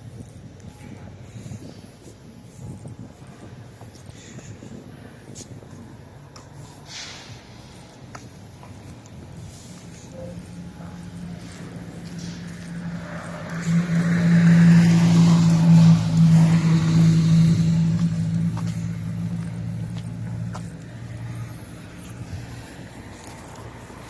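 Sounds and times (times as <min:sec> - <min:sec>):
truck engine humming: 0:04.7 - 0:24.0.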